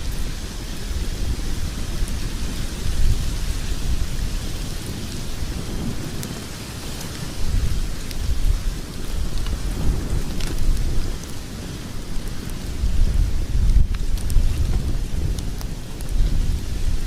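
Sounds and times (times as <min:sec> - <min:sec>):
fire crackles and pops: 0:00.0 - 0:17.0
fire rumble and hiss: 0:00.0 - 0:17.0.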